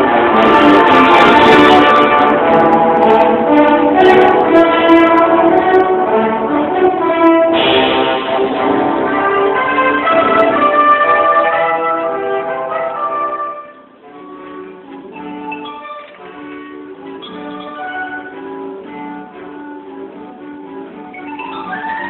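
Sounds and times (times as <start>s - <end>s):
wind band playing chords: 0.0s - 22.0s.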